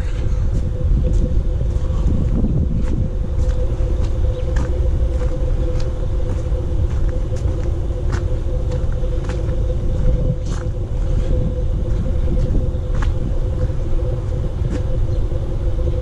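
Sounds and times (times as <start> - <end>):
crunchy footsteps: 0.0 - 16.0
faint even hum: 0.0 - 16.0
loud steady low rumble: 0.0 - 16.0.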